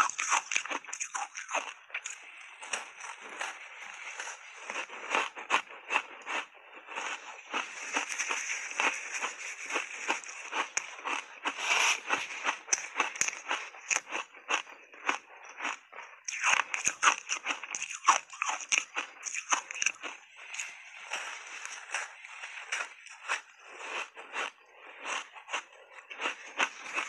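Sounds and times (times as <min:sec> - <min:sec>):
ice crunching while chewed: 0:00.0 - 0:27.0.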